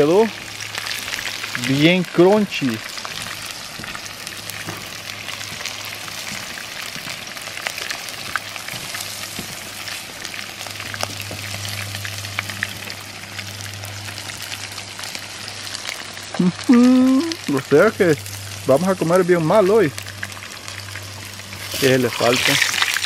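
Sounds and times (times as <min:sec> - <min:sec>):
meat sizzling in hot oil: 0:00.0 - 0:23.0
steady low hum: 0:00.0 - 0:23.0.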